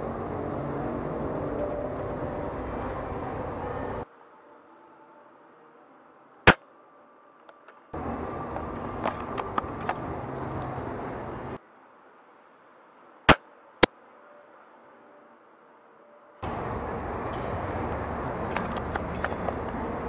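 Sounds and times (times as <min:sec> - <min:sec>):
outdoor noise: 0:00.0 - 0:20.0.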